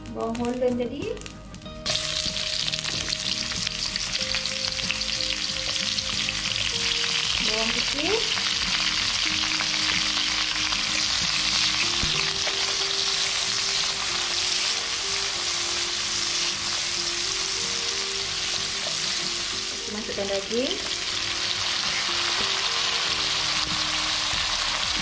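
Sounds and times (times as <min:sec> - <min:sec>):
onion and garlic sizzling in oil: 0:00.0 - 0:25.0.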